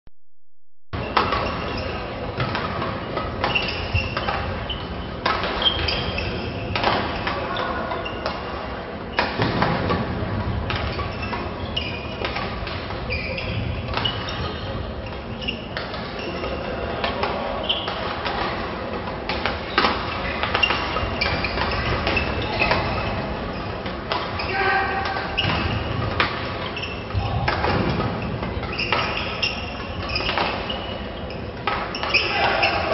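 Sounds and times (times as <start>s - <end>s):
rackets hitting shuttlecock: 1.0s - 7.6s, 9.2s - 24.4s, 25.0s - 32.9s.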